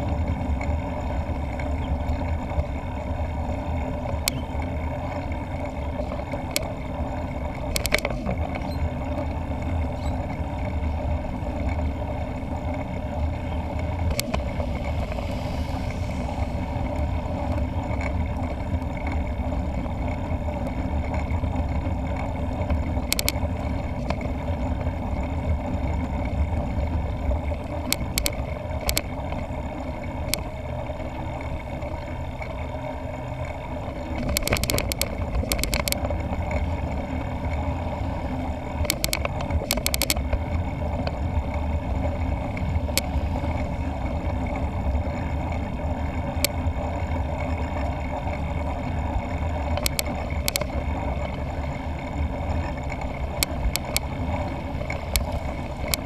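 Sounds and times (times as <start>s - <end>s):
bike clicks and rattles: 0.0s - 56.0s
low rumble of bike ride: 0.0s - 56.0s.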